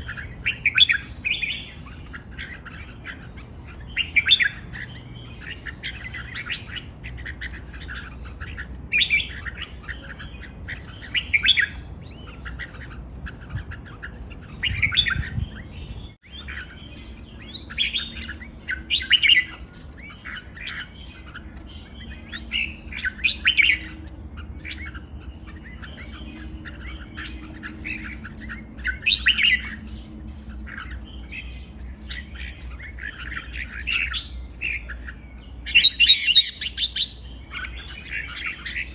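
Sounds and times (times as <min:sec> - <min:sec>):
bird singing chirpy phrases: 0:00.0 - 0:38.9.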